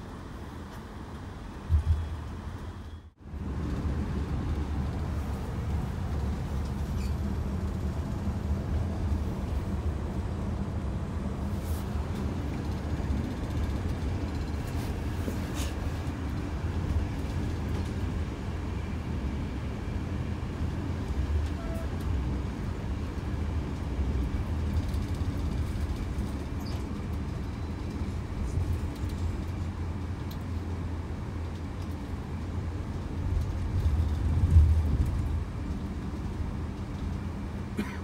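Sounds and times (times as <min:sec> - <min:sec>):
train coach rumbling on track: 0:00.0 - 0:38.0.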